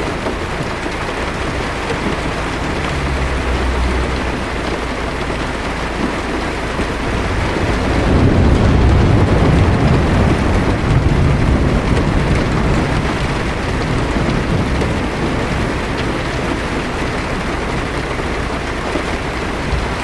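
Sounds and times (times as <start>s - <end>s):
low thunder rumble: 0.0s - 18.6s
heavy rain on a car: 0.0s - 20.0s.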